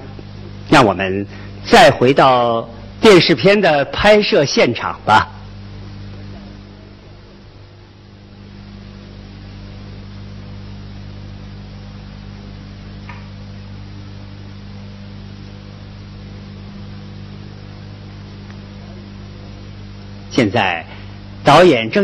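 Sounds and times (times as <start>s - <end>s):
electrical mains hum with hiss: 0.0s - 22.0s.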